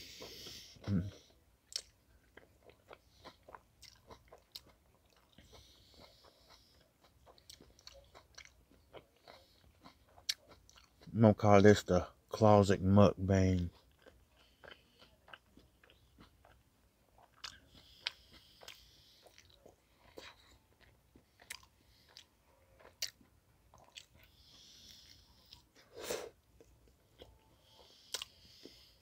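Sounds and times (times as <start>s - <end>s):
person chewing food: 0.0s - 11.4s, 13.4s - 29.0s.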